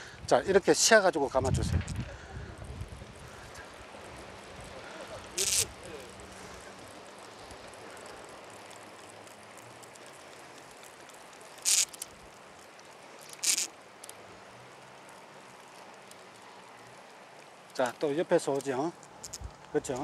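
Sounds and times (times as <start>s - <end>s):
outdoor background noise: 0.0s - 20.0s
faint boat engine hum: 2.0s - 20.0s.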